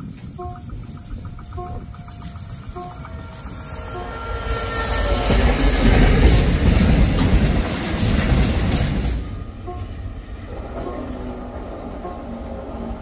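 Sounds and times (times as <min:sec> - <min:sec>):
locomotive engine rumbling: 0:00.0 - 0:13.0
train wheels clattering over rails: 0:00.0 - 0:13.0.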